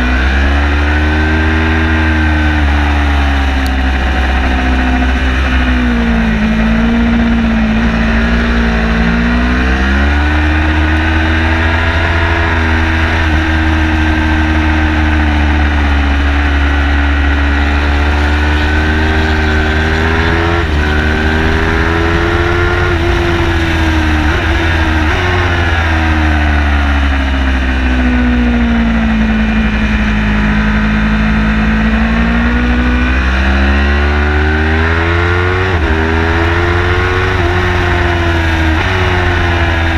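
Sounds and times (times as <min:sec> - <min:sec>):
car engine revving hard: 0:00.0 - 0:39.9
heavy low rumble: 0:01.3 - 0:33.8
gear changes: 0:01.5 - 0:39.9.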